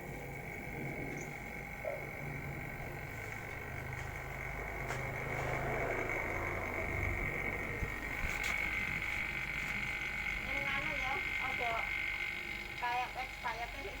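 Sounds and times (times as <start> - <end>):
low machine hum with whine: 0.0 - 14.0.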